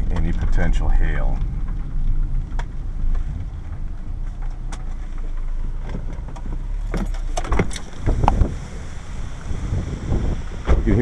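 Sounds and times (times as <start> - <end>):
car engine running low: 0.0 - 11.0.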